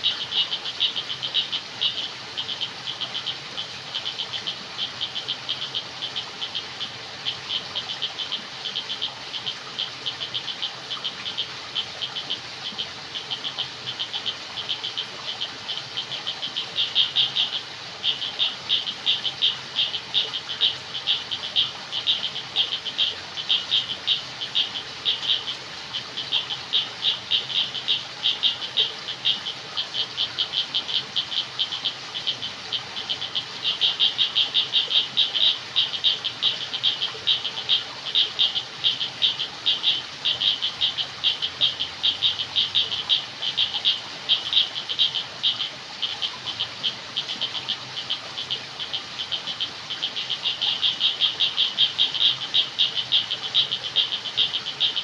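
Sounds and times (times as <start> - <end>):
frogs calling: 0.0 - 55.0.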